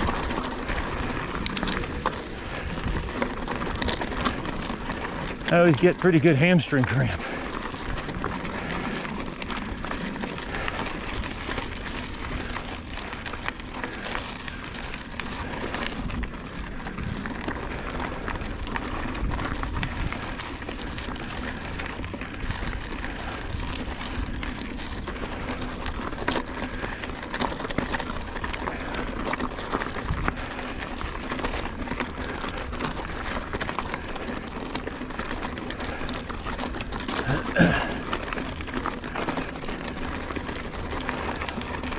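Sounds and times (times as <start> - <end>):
bike clicks and rattles: 0.0 - 41.9
bike tyres crunching on stones: 0.0 - 41.9.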